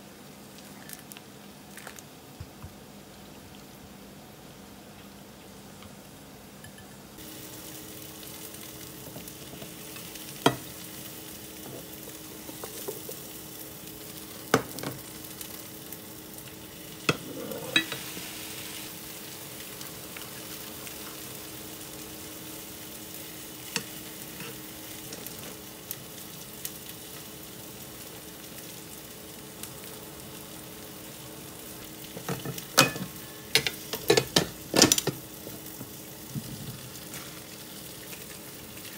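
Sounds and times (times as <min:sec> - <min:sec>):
food sizzling in a pan: 0:06.1 - 0:38.9.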